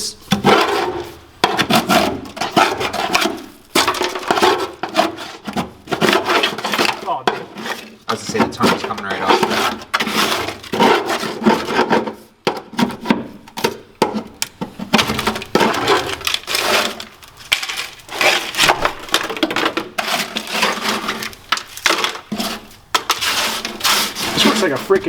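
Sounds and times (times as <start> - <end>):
scraping on sheet metal: 0.0 - 13.0, 14.9 - 25.0
brittle material cracking off metal: 0.4 - 11.9, 12.6 - 25.0.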